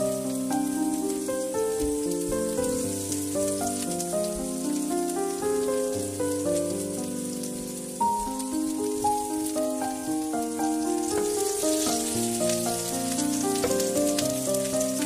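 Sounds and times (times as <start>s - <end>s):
background music melody: 0.0s - 15.0s
onion frying in hot oil: 0.0s - 15.0s.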